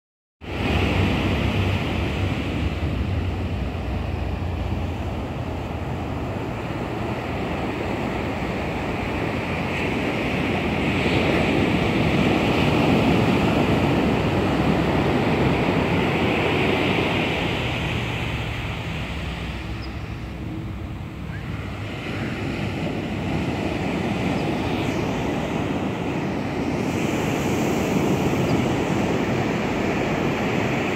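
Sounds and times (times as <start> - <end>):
surf washing up a beach: 0.4 - 30.9.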